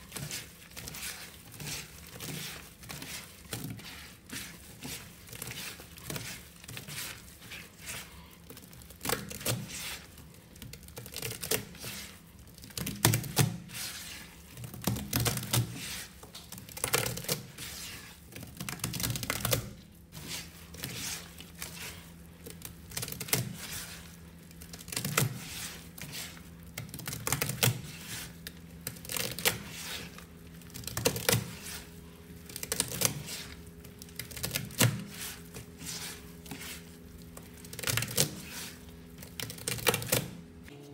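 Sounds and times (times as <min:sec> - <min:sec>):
sponge scrubbing gritty paste: 0:00.0 - 0:40.5.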